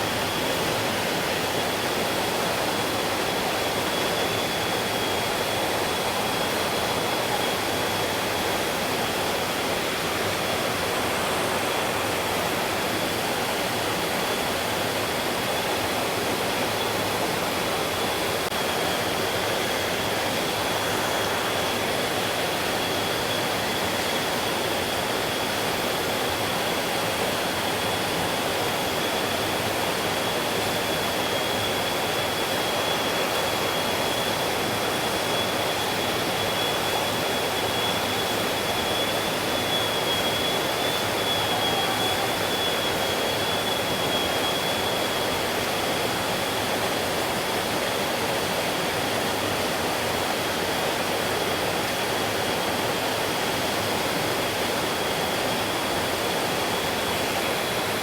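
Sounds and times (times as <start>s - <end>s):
thin high whine: 0.0s - 47.8s.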